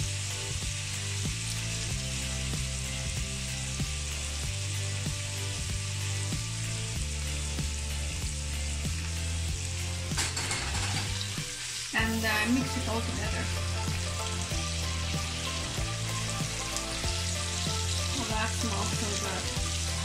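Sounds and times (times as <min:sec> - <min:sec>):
background music with beat: 0:00.0 - 0:20.0
bacon sizzling in a frying pan: 0:00.0 - 0:20.0.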